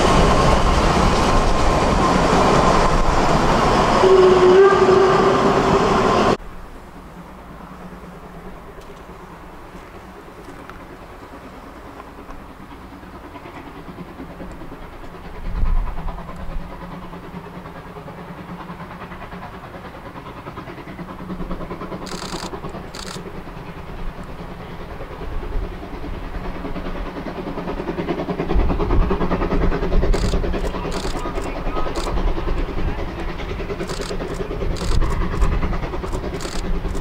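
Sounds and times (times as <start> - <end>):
steam locomotive chuffing: 0.0 - 37.0.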